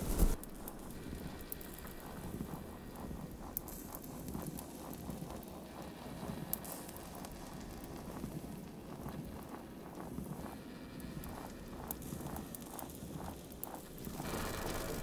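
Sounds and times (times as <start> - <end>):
crackling electronic noise texture: 0.0 - 15.0
soft rapid electronic pulsing: 0.0 - 15.0.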